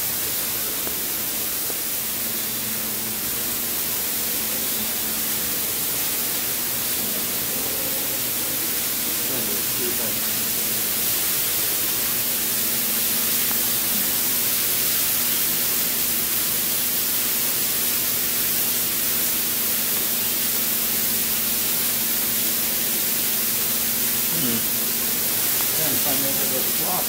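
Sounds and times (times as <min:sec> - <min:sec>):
loud hiss: 0:00.0 - 0:27.0.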